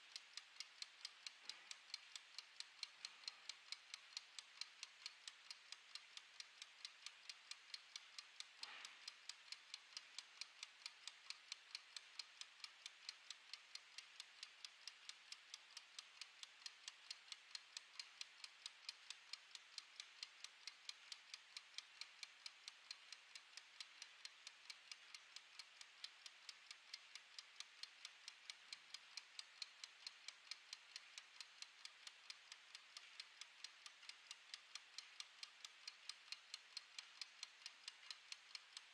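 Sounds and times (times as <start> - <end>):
kitchen timer ticking: 0.0 - 38.9.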